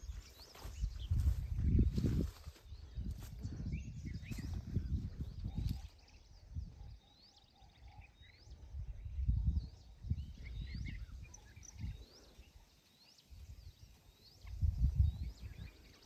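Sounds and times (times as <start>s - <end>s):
bird high chirp: 0.0s - 16.0s
faint bird chirps: 0.0s - 16.0s.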